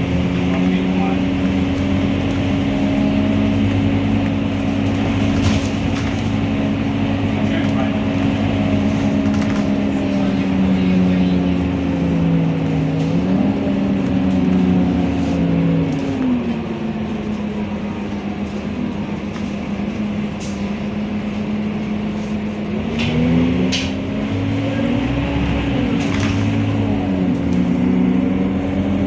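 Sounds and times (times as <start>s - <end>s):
bus diesel engine droning: 0.0s - 29.0s.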